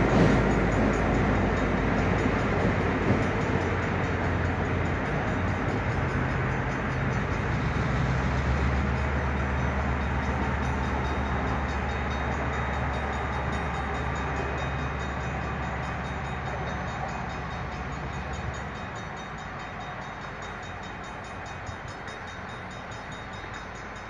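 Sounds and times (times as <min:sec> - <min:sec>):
diesel locomotive engine rumble: 0:00.0 - 0:24.0.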